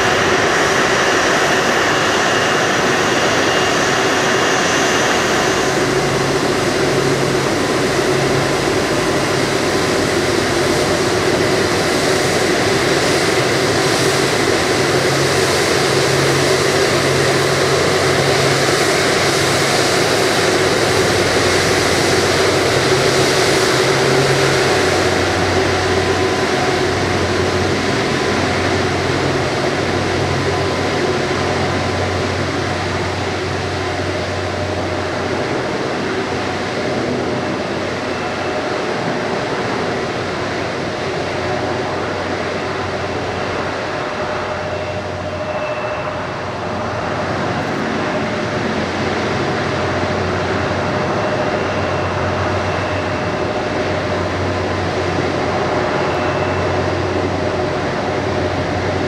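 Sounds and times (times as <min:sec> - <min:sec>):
jet engines whining and rumbling: 0:00.0 - 0:59.0.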